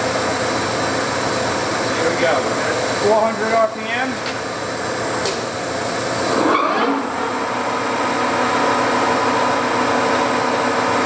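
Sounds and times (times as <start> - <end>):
lathe running with mechanical hum: 0.0 - 11.0.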